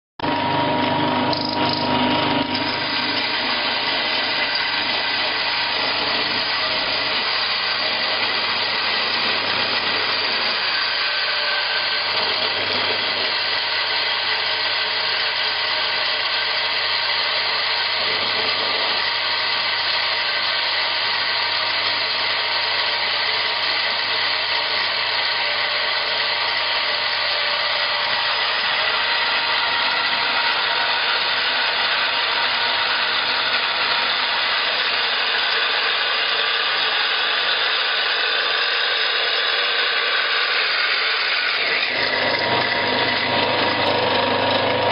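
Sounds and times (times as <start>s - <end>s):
grinding machine whirring: 0.2s - 44.9s.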